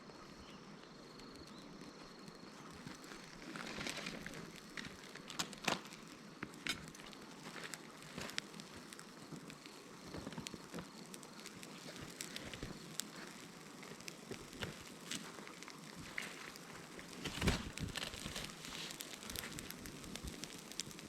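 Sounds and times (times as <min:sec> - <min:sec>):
small fire crackling and popping: 0:00.0 - 0:21.0.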